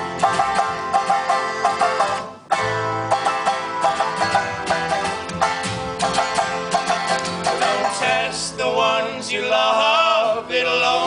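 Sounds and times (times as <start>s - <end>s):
fast banjo picking: 0.0s - 9.2s
strummed guitar: 0.0s - 11.0s.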